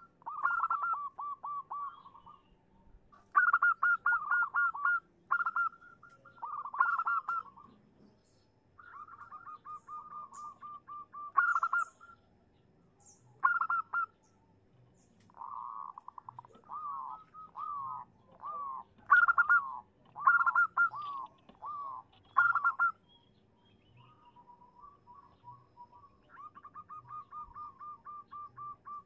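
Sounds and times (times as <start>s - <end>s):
dove cooing: 0.0s - 7.8s, 8.8s - 12.3s, 13.4s - 14.2s, 15.3s - 23.0s, 24.0s - 29.0s
small birds chirping: 0.0s - 29.0s.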